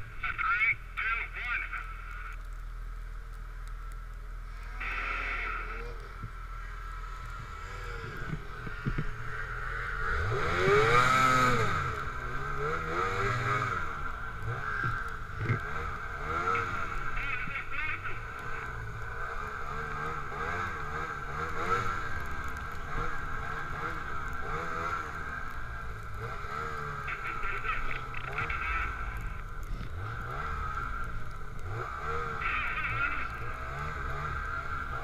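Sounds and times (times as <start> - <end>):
snowmobile engines revving: 4.4 - 35.0.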